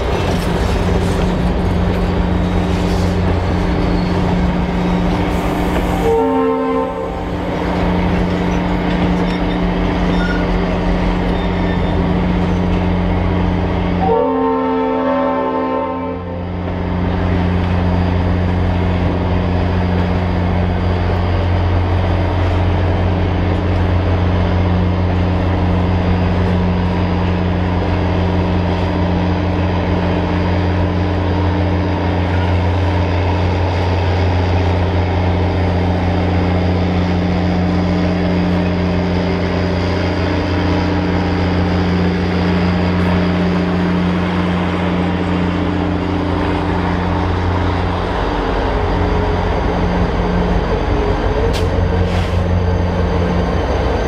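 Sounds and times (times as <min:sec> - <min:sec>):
low diesel engine drone: 0:00.0 - 0:54.0
train rolling past: 0:00.0 - 0:54.0.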